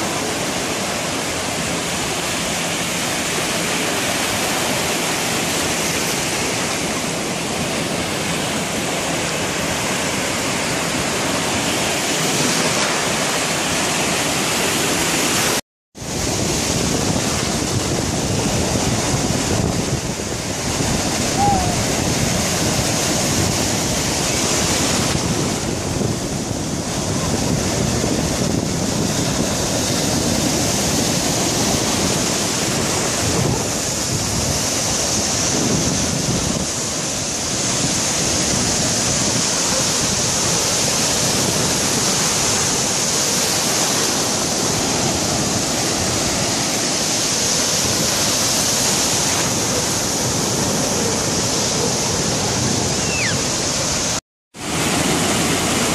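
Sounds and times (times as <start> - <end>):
ocean surf breaking: 0.0 - 55.9.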